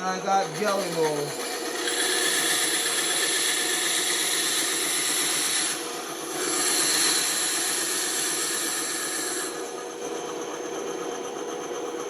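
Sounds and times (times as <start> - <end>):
band saw running: 0.0 - 12.0.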